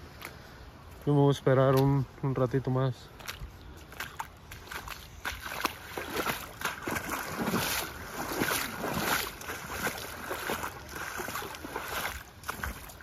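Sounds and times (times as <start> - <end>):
footsteps wading through water: 0.0 - 13.0.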